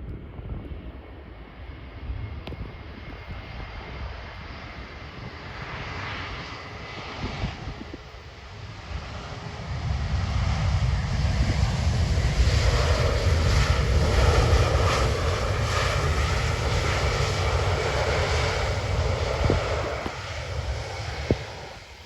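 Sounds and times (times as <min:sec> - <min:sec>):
jet engines rushing with whine: 0:00.0 - 0:22.0
wind buffeting microphone: 0:00.0 - 0:22.0.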